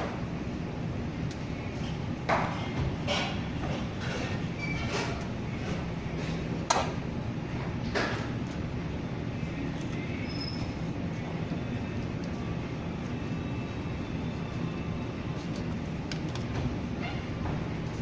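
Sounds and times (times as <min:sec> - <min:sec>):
low mechanical rumble: 0:00.0 - 0:18.0.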